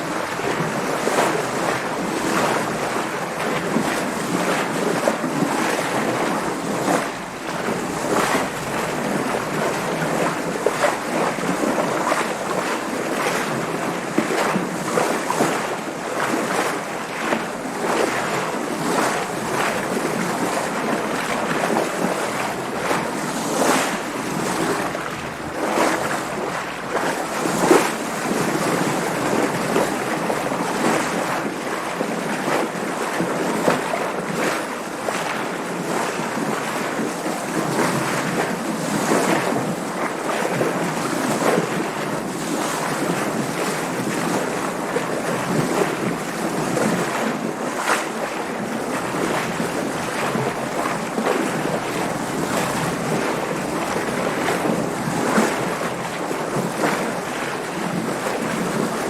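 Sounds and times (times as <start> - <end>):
water splashing around a boat: 0.0 - 59.0.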